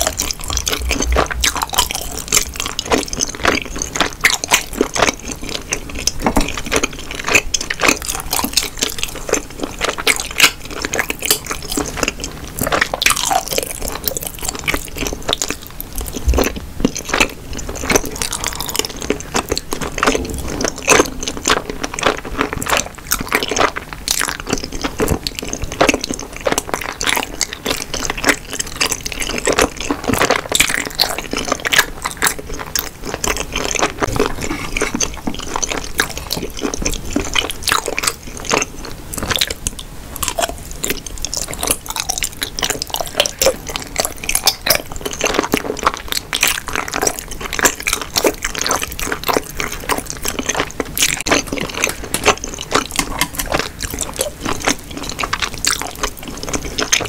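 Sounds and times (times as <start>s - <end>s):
close chewing mouth clicks: 0.0s - 57.0s.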